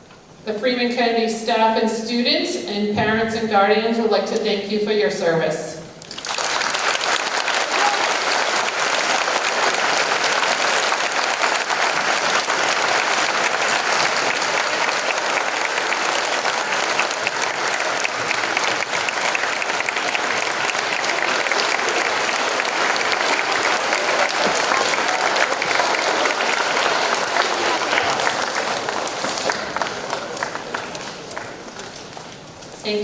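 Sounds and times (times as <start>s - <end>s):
audience applauding: 6.0s - 32.6s.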